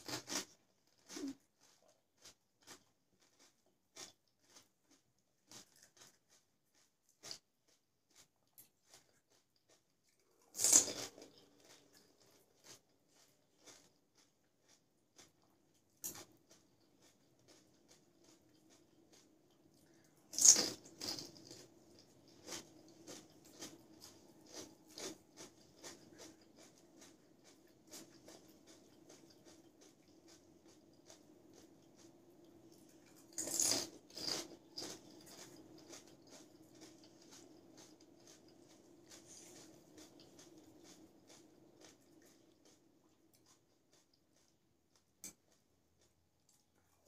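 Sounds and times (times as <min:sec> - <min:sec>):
chewing with crunches: 0:00.0 - 0:47.0.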